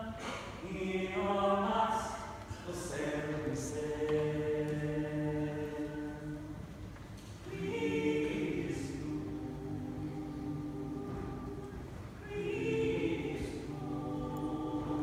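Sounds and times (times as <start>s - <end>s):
vocal trio singing in harmony: 0.0s - 15.0s.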